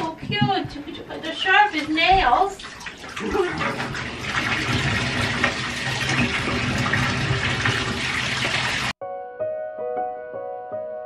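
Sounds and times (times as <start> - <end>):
tap water running into bathtub: 0.0 - 9.0.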